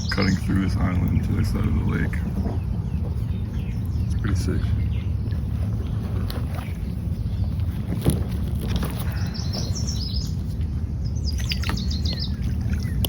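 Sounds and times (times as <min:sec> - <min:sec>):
low rumble: 0:00.0 - 0:13.0
songbird chirping: 0:00.0 - 0:13.0.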